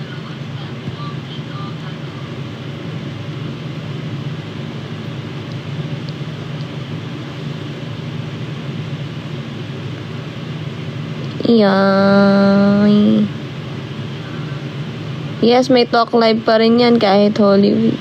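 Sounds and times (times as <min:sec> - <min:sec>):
low rumble with hiss: 0:00.0 - 0:18.0.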